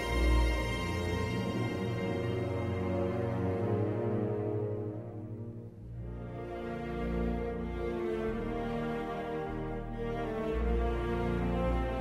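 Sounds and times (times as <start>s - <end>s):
music of long held notes: 0.0s - 12.0s.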